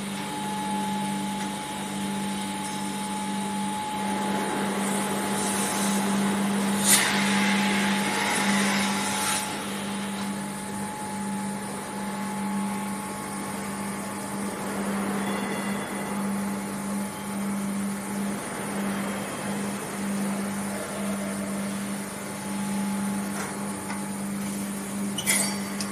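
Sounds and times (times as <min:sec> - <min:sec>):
machinery hum: 0:00.0 - 0:25.9.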